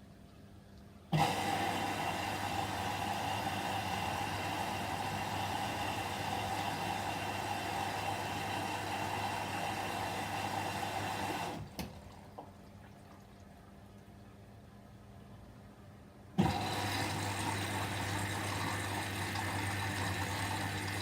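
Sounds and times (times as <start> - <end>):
water rushing through washing machine: 1.1 - 13.5, 16.4 - 21.0.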